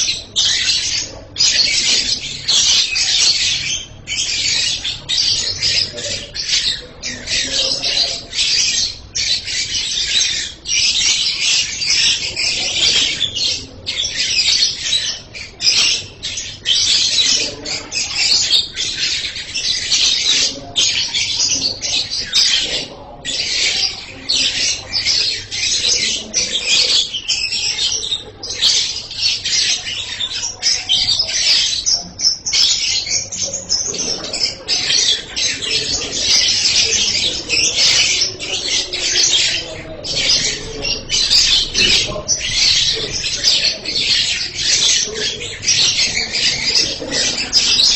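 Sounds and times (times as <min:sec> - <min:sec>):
lovebird chattering song: 0:00.0 - 0:47.9.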